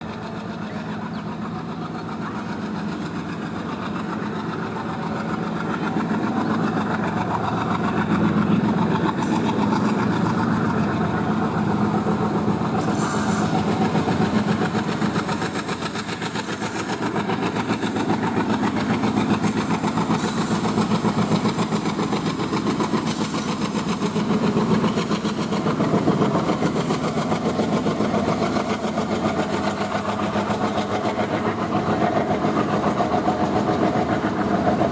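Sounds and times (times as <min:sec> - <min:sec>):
goods train on rails: 0:00.0 - 0:34.9.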